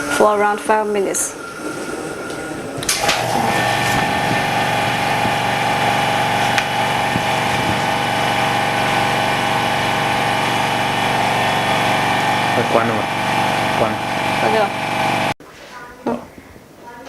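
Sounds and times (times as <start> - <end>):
pump humming steadily: 1.3 - 15.4.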